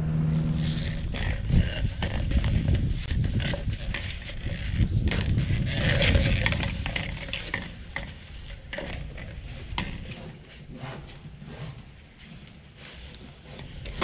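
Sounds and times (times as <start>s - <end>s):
plastic pipe scraping and clicking: 0.6s - 14.0s.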